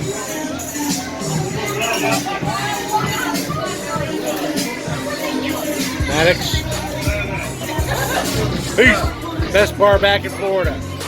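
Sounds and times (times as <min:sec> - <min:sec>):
music with percussion: 0:00.0 - 0:11.0.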